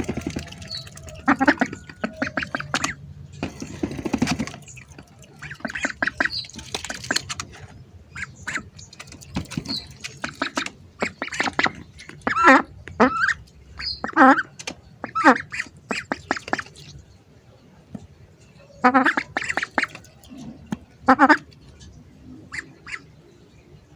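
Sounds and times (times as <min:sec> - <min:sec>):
ducks quacking: 0:00.0 - 0:17.0, 0:18.7 - 0:23.4.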